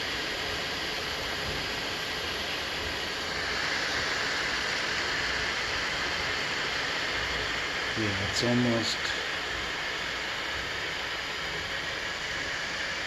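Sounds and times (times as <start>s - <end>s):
printer fans and motors whirring: 0.0s - 13.0s.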